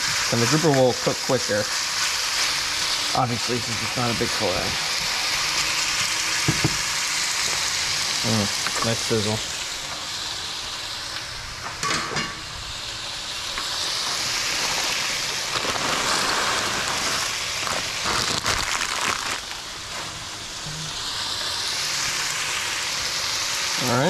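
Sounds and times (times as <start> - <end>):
fish sizzling in skillet: 0.0 - 24.0.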